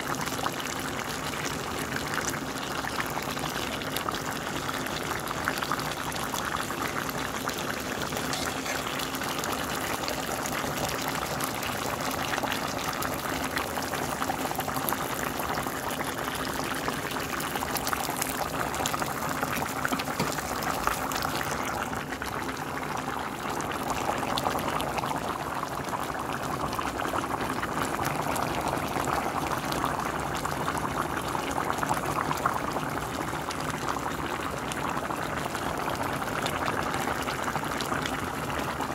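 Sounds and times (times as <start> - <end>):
pot boiling with bubbling: 0.0 - 38.9.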